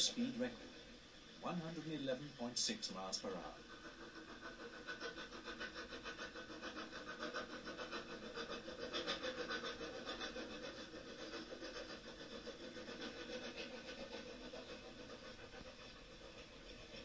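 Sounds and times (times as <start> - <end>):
steam hissing: 0.0 - 17.0
steam locomotive exhaust beats: 0.0 - 17.0.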